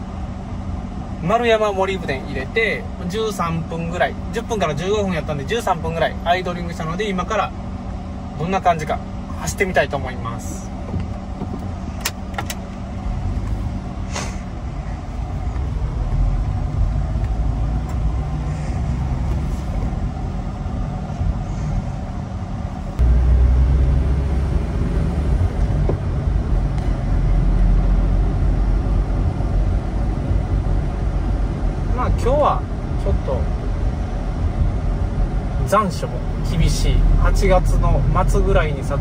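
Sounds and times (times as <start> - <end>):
road noise: 0.0 - 39.0
truck engine rumble: 0.0 - 39.0.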